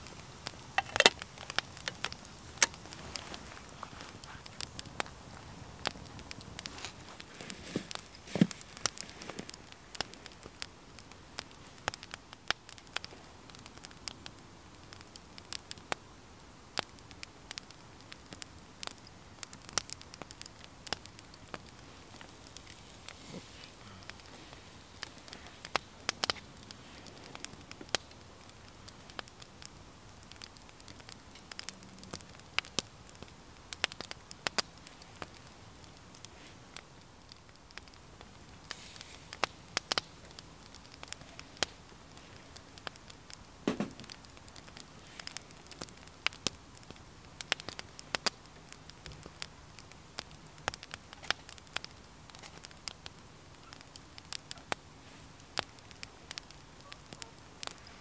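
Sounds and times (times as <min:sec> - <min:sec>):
low steady hiss: 0:00.0 - 0:58.0
wood fire crackling and popping: 0:00.0 - 0:58.0.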